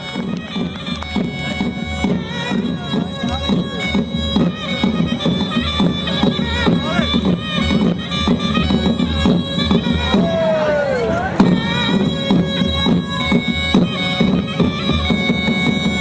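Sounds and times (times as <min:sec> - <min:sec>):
low drum beat: 0:00.0 - 0:16.0
wind instrument melody: 0:00.0 - 0:16.0.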